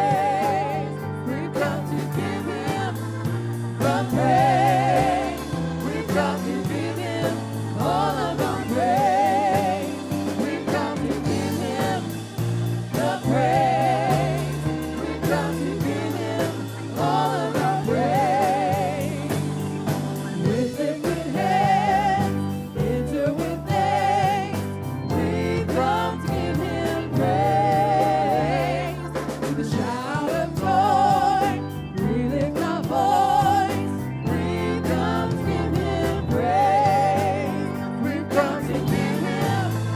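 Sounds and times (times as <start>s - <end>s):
band with sustained bass: 0.0s - 39.9s
voices singing with vibrato: 0.0s - 39.9s.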